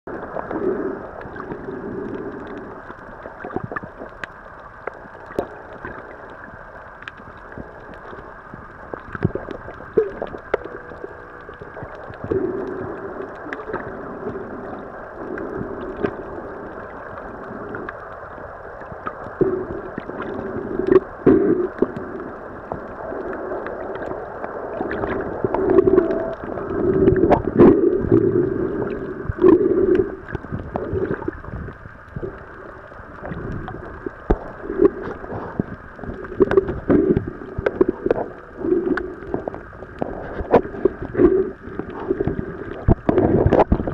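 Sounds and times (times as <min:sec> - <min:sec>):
faint clicks and crackles: 0:00.1 - 0:43.9
muffled underwater hum: 0:00.1 - 0:43.9.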